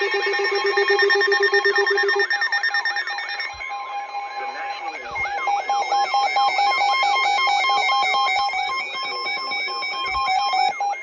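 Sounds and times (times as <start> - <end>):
two-tone alarm: 0.0 - 11.0.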